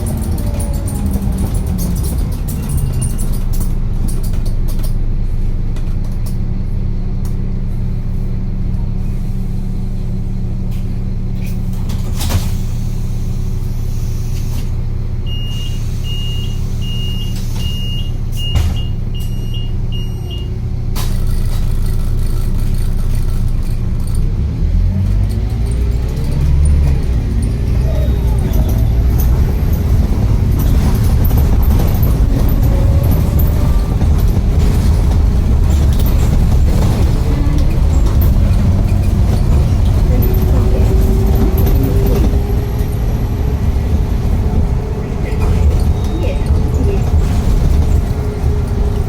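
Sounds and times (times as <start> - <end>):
large vehicle engine running: 0.0 - 49.0.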